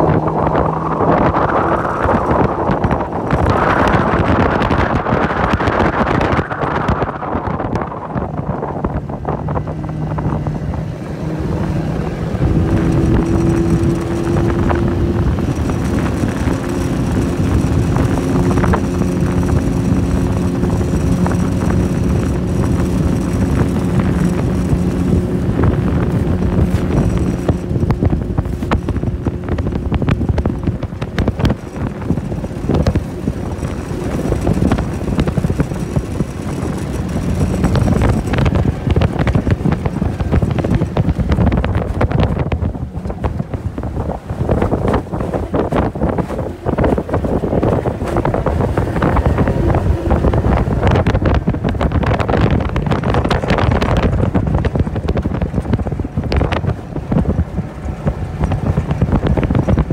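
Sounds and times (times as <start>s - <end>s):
boat hull slapping water: 0.0s - 59.9s
outboard motor running: 0.0s - 59.9s
wind buffeting microphone: 0.0s - 59.9s.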